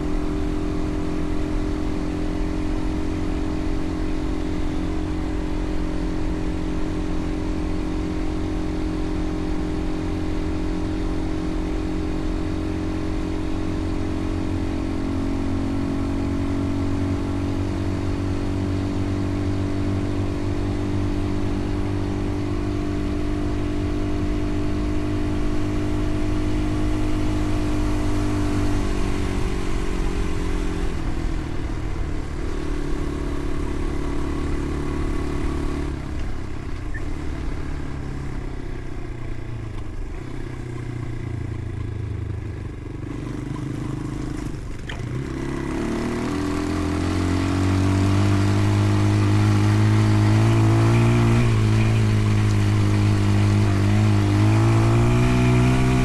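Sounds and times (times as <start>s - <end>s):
vehicle engine running: 0.0s - 56.0s
wind and road noise: 0.0s - 56.0s.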